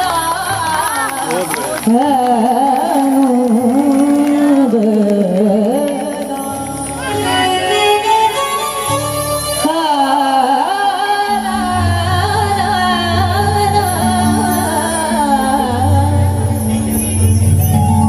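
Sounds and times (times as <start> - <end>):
devotional music: 0.0 - 18.0.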